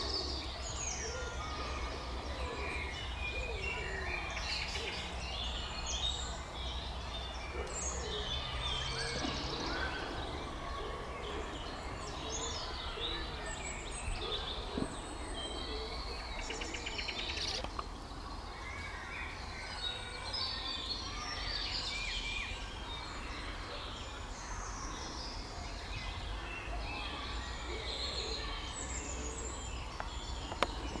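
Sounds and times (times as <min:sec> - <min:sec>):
birds chirping and singing: 0:00.0 - 0:31.0.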